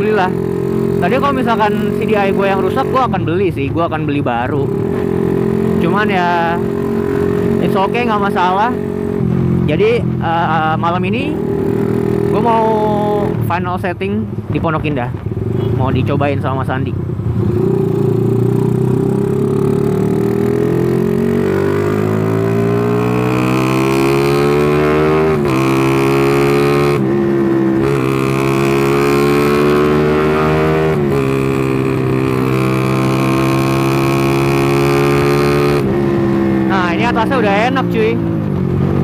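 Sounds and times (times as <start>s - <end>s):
motorcycle engine accelerating: 0.0s - 3.4s, 4.3s - 13.5s, 15.2s - 39.0s.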